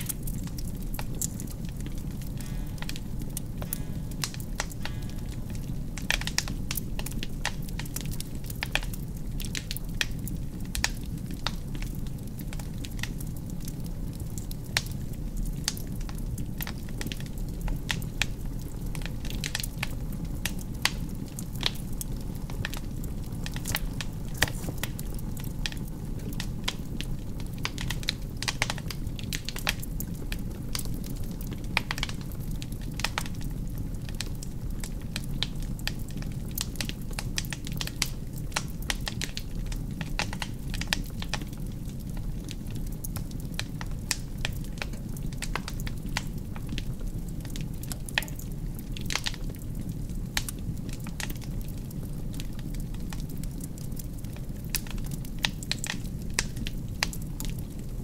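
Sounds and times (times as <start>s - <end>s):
flames rushing: 0.0s - 58.0s
logs crackling and popping: 0.0s - 58.0s.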